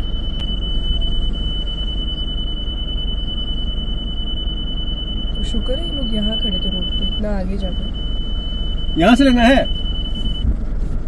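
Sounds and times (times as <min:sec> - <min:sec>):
thin high-pitched whine: 0:00.0 - 0:10.5
vehicle engine and road rumble: 0:00.0 - 0:11.0.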